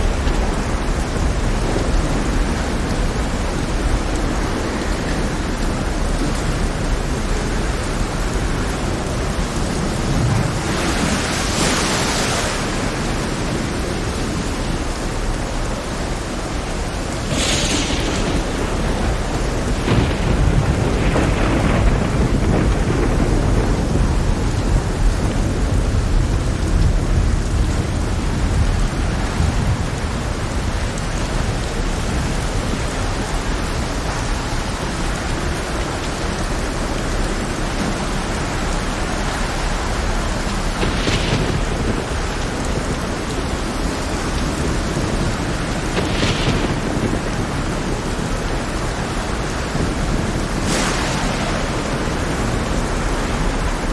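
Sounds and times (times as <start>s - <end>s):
heavy rain downpour: 0.0s - 53.9s
low rumble of thunder: 0.0s - 53.9s.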